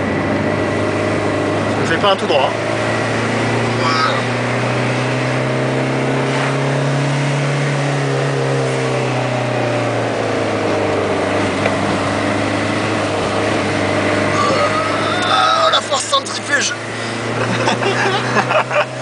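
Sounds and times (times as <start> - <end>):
diesel car engine under load: 0.0 - 19.0.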